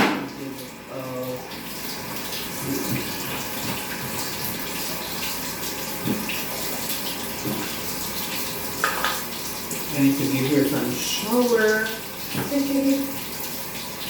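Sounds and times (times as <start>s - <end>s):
shower water running over cat: 0.2s - 14.0s.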